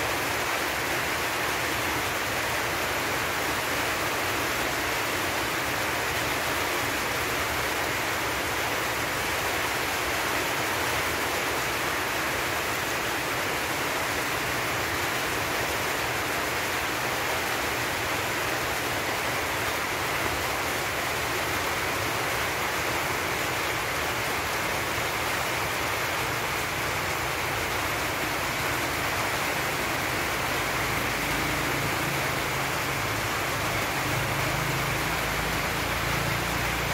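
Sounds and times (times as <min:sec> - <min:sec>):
steady rushing hiss: 0:00.0 - 0:36.9.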